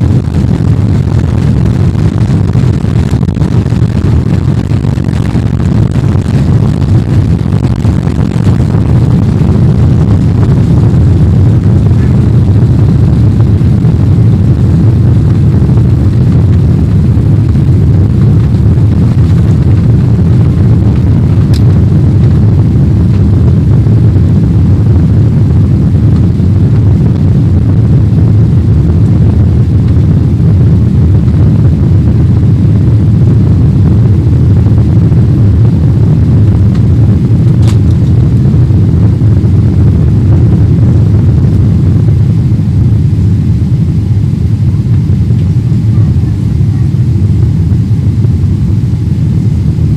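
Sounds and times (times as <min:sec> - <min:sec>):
jet engines and airflow rumbling: 0:00.0 - 0:49.9.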